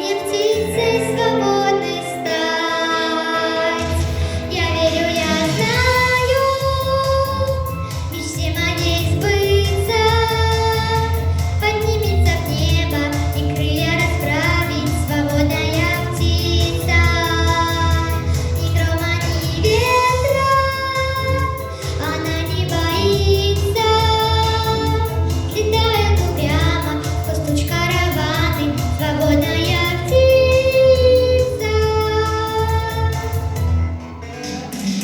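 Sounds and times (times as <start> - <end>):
girl singing: 0.0 - 33.6
backing track: 0.0 - 35.0
steady bass: 3.9 - 34.0.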